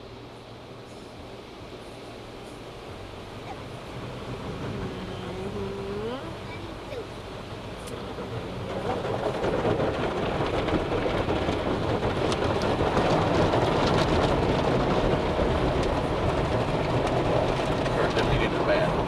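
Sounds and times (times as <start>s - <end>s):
car wash water and machinery: 0.0s - 19.0s.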